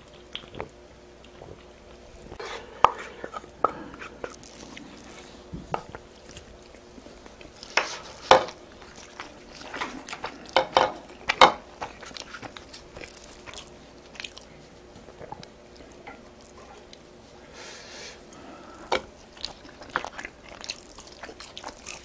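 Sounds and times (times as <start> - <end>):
chewing and crunching: 0.0 - 17.5, 18.2 - 22.0.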